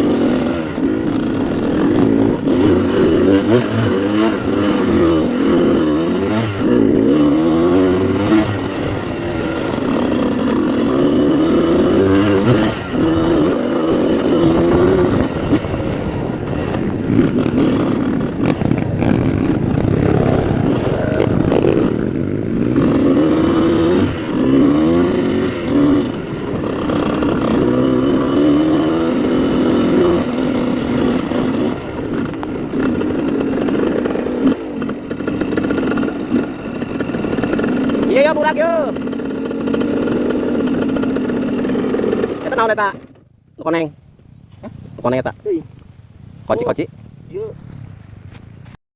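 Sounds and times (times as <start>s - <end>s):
dirt bike engine revving: 0.0s - 43.8s.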